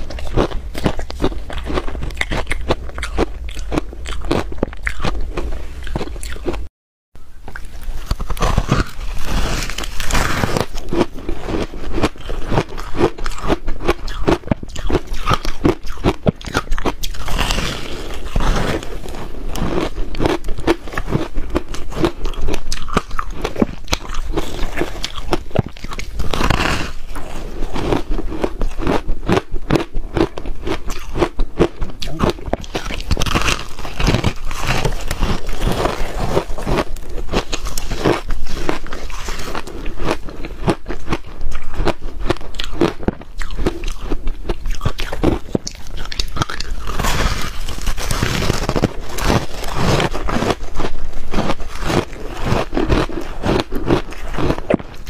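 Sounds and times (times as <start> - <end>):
person crunching ice: 0.0 - 6.7, 7.4 - 55.0.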